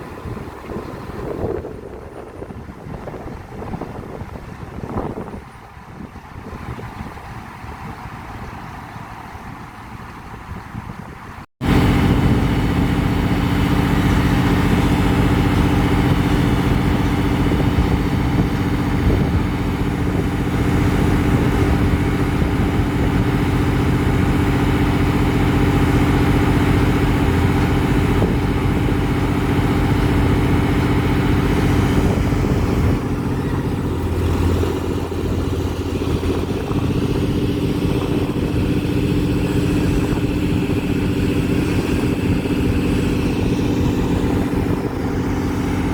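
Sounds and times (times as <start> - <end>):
deep low engine note: 0.0 - 45.9
heavy diesel engine running: 0.0 - 45.9.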